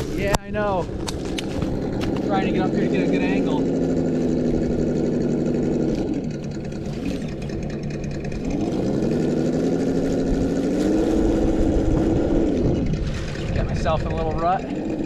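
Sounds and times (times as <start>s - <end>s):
simulated engine sound from speaker: 0.0s - 15.0s.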